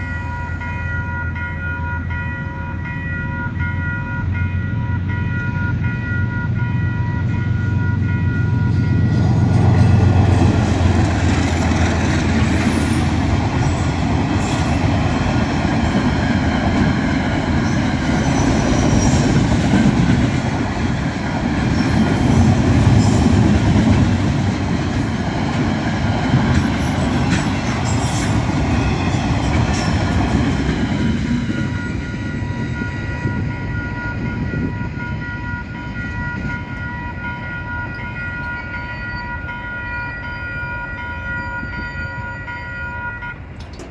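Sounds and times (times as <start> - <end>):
crossing warning bells: 0.0 - 43.9
train wagons clattering: 5.0 - 39.5, 43.2 - 43.9.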